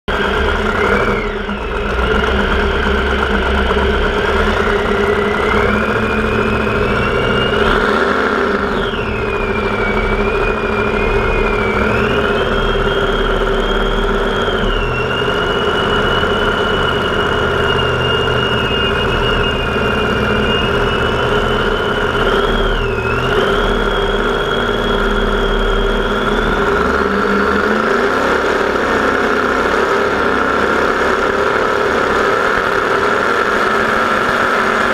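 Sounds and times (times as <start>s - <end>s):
powerboat engine whine: 0.0s - 34.9s.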